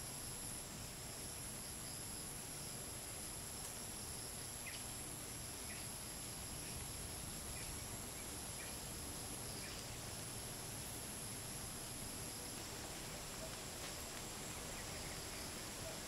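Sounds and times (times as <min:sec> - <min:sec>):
insect chorus drone: 0:00.0 - 0:16.0
short insect chirp: 0:00.0 - 0:16.0.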